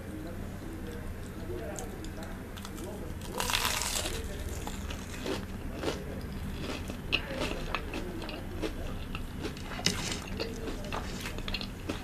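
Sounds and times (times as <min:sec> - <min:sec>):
chewing crispy food: 0:00.8 - 0:12.0.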